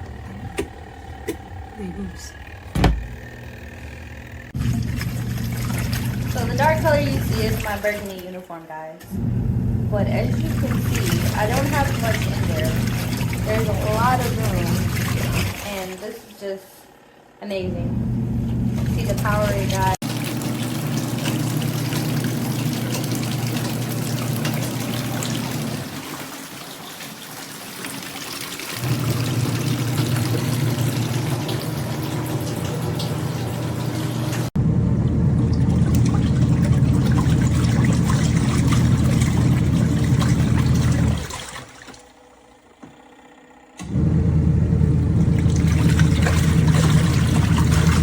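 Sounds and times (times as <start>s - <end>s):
washing machine churning: 0.0s - 48.0s.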